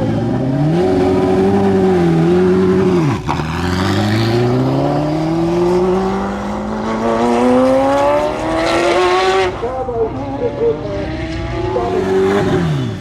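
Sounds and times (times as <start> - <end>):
sports car engine at high revs: 0.0 - 13.0.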